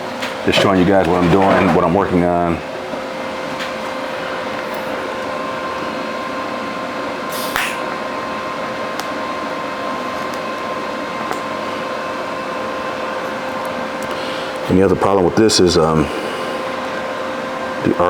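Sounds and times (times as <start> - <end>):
welding arc hissing and humming: 2.3 - 18.0.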